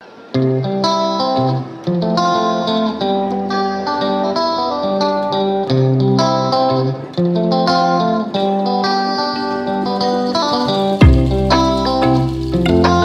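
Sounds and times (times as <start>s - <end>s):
plucked guitar music: 0.0s - 13.0s.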